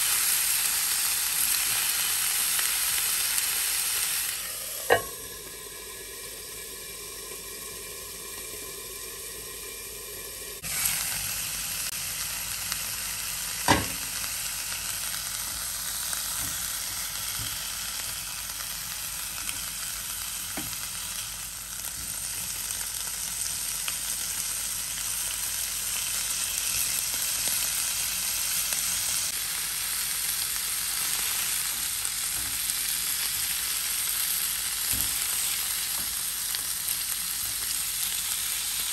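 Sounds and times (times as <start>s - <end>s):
meat sizzling in a frying pan: 0.0s - 38.9s.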